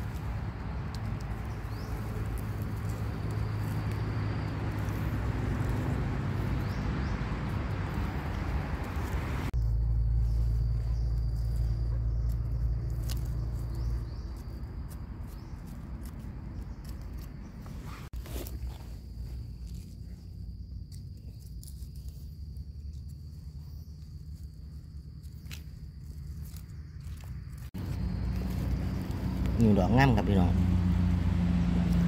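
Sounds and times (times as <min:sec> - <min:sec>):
dry leaves crackling: 0:00.0 - 0:32.0.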